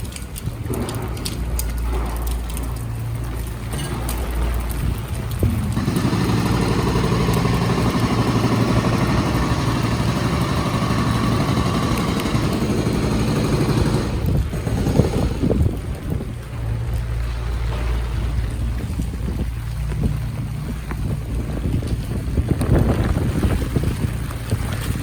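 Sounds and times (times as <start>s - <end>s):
tyres spraying on wet street: 0.0s - 25.0s
vehicle engine running: 1.6s - 25.0s.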